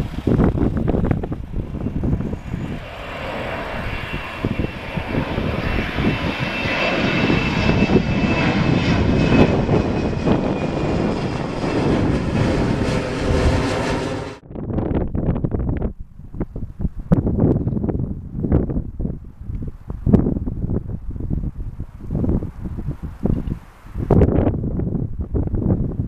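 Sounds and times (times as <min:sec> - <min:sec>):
jet airliner turbofan roar: 0:00.0 - 0:26.0
wind buffeting microphone: 0:00.0 - 0:26.0.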